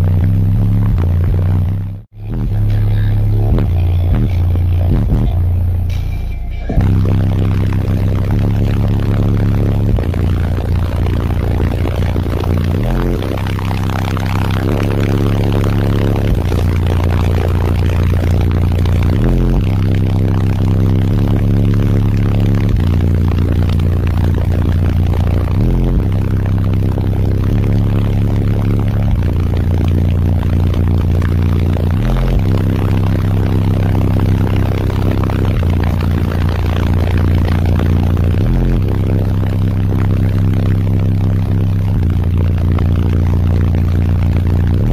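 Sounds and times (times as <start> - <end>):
harsh noisy haze: 0.0 - 44.9
loud car audio bass notes: 0.0 - 44.9.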